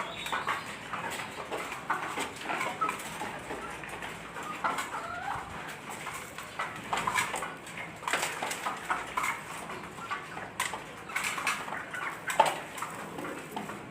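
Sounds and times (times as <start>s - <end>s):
chickens clucking softly: 0.0s - 13.9s.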